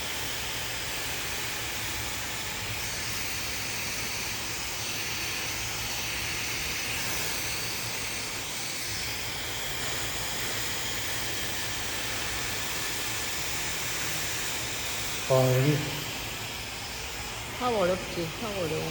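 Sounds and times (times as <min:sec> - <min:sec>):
hair dryer running: 0:00.0 - 0:18.9.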